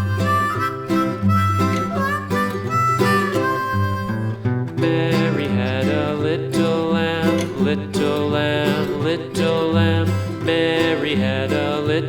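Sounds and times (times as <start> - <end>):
upbeat country guitar music: 0.0 - 12.0.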